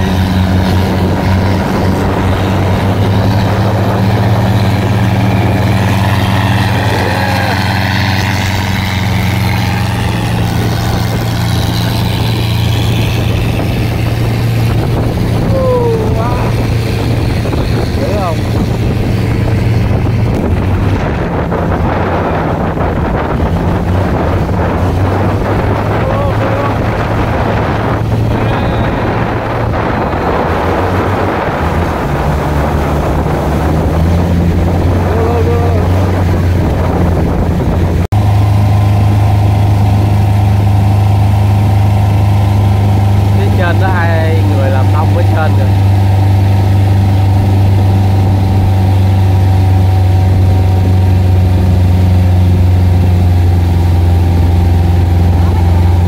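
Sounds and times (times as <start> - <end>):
boat engine drone: 0.0 - 56.0
water rushing: 0.0 - 56.0
wind noise: 0.0 - 56.0.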